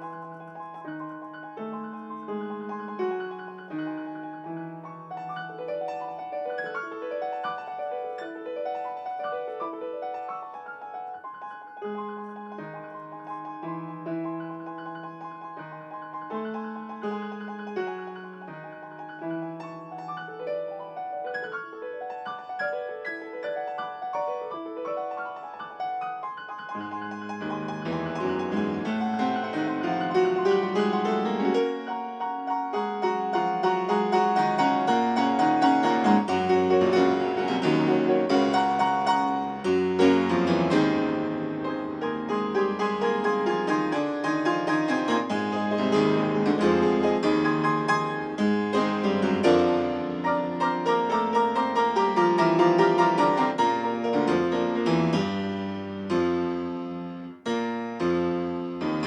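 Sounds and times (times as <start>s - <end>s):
solo piano classical piece: 0.0s - 59.0s.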